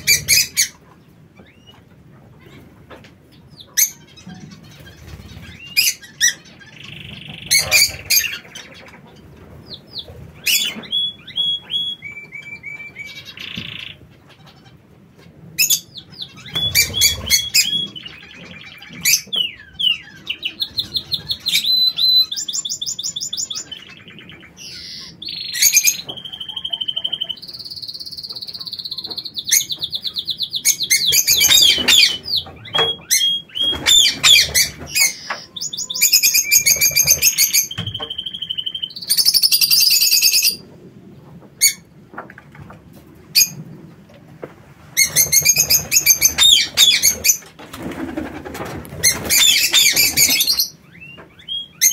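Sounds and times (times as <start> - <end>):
birds chirping and calling: 0.0 - 44.2, 44.9 - 51.9.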